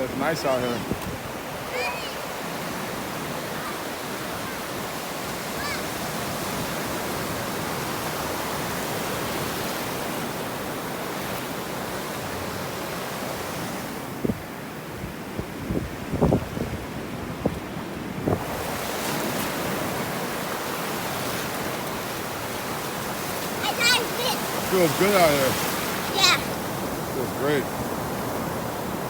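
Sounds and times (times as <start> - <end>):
ocean surf on beach: 0.0 - 29.0.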